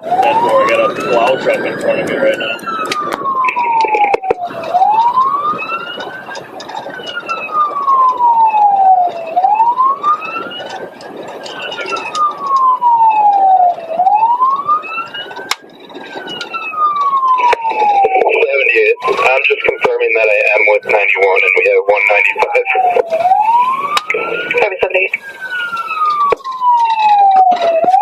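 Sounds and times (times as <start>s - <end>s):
police siren wailing: 0.0s - 28.0s
road and engine noise: 0.0s - 28.0s.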